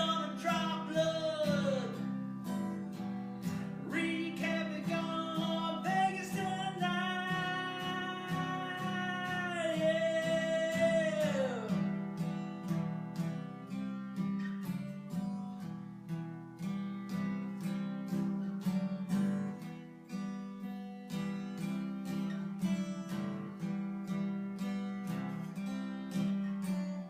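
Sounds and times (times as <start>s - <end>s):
strummed acoustic guitar: 0.0s - 27.0s.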